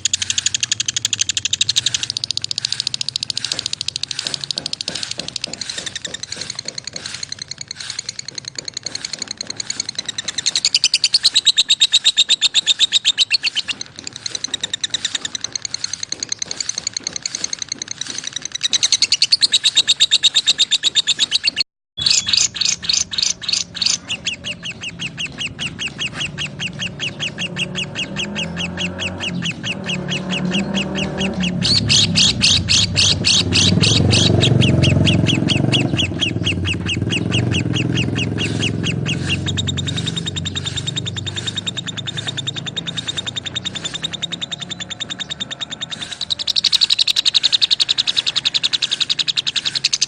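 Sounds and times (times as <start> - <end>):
birds chirping shrill chatter: 0.0 - 50.0.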